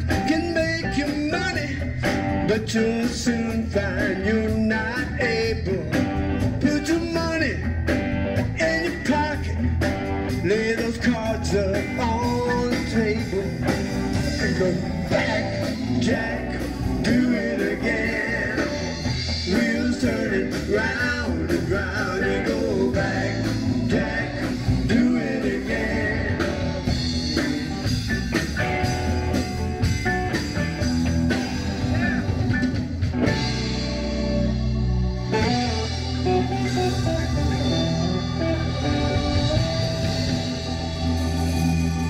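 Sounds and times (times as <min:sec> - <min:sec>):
blues-rock band music: 0:00.0 - 0:42.0.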